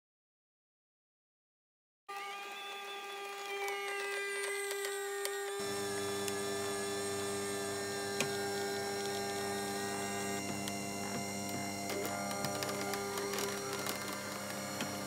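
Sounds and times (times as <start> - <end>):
pasta maker motor humming: 2.1 - 15.0.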